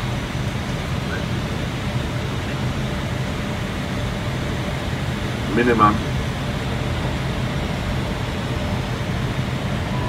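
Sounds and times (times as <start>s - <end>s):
air conditioning: 0.0s - 10.0s
aircraft engine noise: 0.0s - 10.0s.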